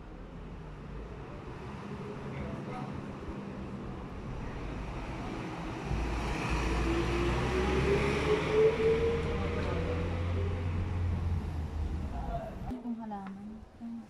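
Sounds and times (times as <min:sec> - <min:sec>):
vehicle engine accelerating: 0:00.6 - 0:12.7.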